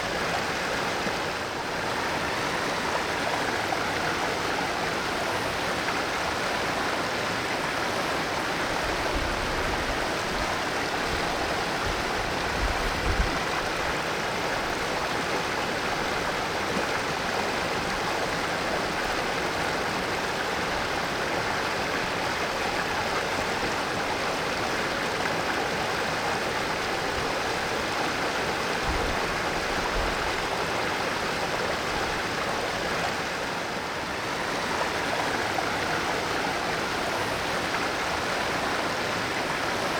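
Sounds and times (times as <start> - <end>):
stream rushing and babbling: 0.0 - 39.9.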